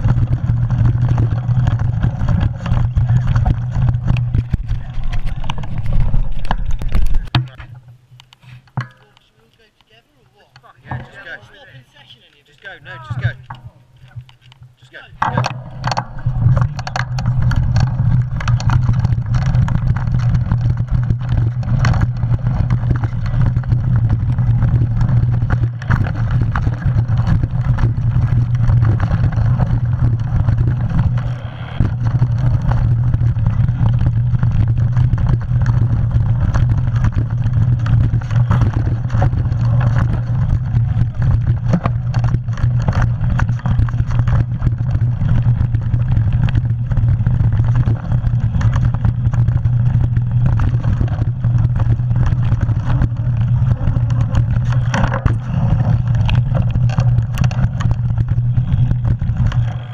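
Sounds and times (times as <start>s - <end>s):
wind rumble on microphone: 0.0s - 7.8s, 13.0s - 59.9s
bike rattling over bumps: 0.0s - 9.5s, 10.6s - 59.9s
tyres on dirt: 0.0s - 59.9s.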